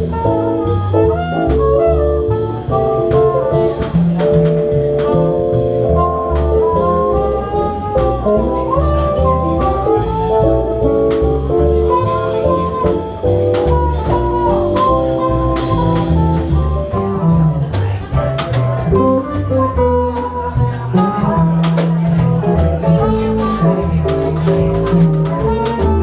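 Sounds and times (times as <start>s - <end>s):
swing band playing jazz: 0.0s - 26.0s.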